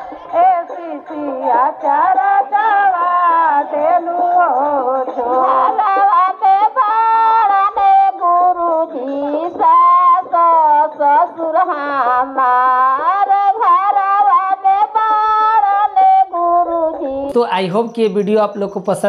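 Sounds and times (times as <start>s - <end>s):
woman singing through loudspeakers: 0.0s - 19.0s.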